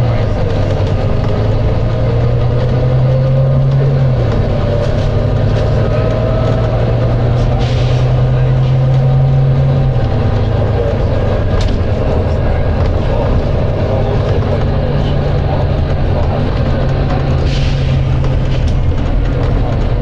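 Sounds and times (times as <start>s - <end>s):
bus diesel engine droning: 0.0s - 20.0s.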